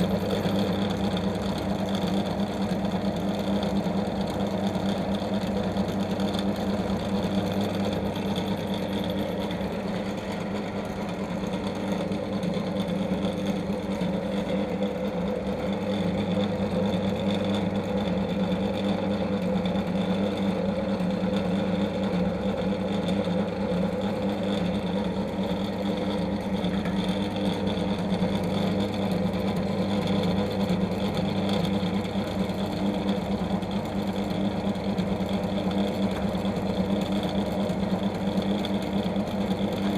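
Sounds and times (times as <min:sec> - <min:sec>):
electric motor hum: 0:00.0 - 0:39.9.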